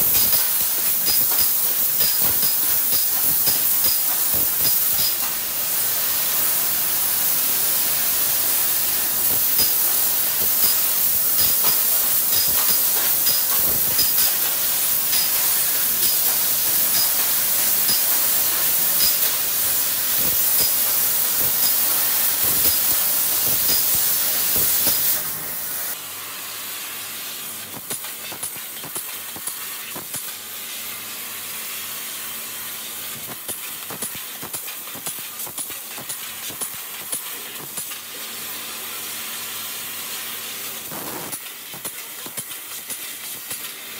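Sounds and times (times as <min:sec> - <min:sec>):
laser cutter gas hiss: 0:00.0 - 0:43.9.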